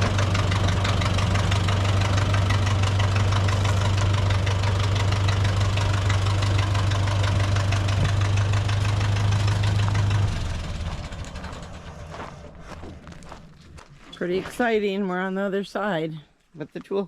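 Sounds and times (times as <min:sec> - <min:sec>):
locomotive engine running: 0:00.0 - 0:16.2.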